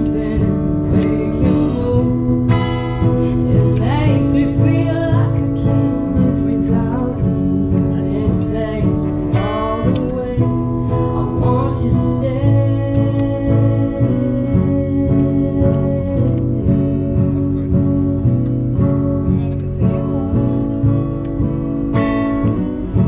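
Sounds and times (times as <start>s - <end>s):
woman singing into microphone: 0.0s - 17.4s, 19.7s - 23.0s
strummed acoustic guitar: 0.0s - 23.0s.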